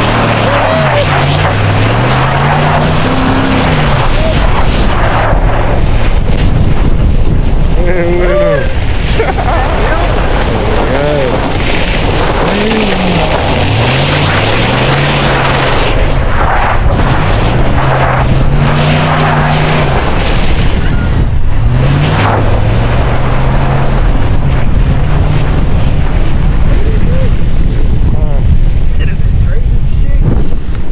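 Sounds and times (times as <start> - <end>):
truck engine revving: 0.0 - 28.9
steady rushing noise: 0.0 - 30.9.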